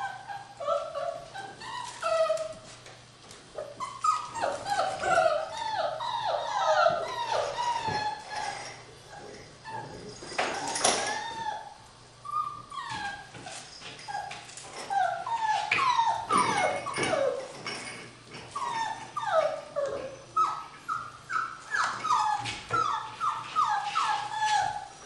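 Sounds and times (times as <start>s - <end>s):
puppies whining and yipping: 0.0s - 2.8s, 3.5s - 25.0s.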